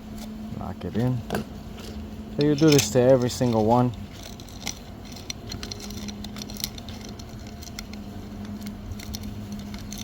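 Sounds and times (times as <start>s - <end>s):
steady low hum: 0.0s - 10.0s
saw chain clicks and scrapes: 1.8s - 10.0s.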